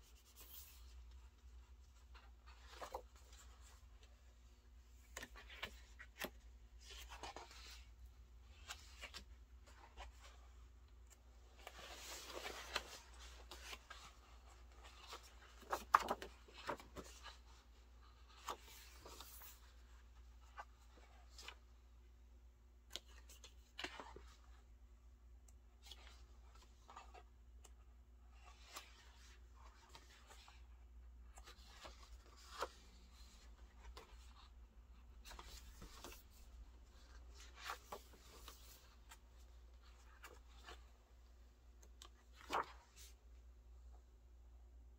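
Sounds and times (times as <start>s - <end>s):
book pages turning: 0.0s - 4.1s, 4.8s - 21.8s, 22.8s - 24.5s, 25.8s - 43.3s.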